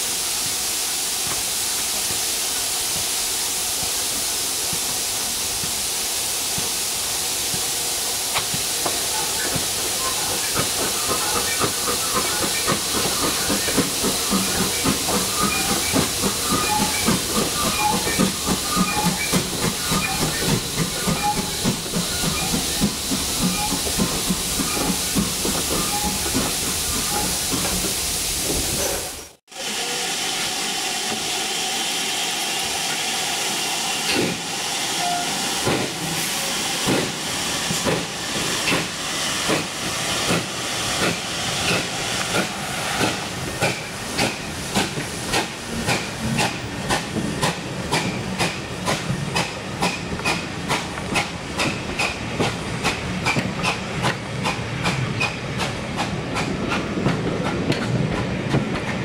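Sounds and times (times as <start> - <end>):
steam locomotive hissing steam: 0.0 - 59.0.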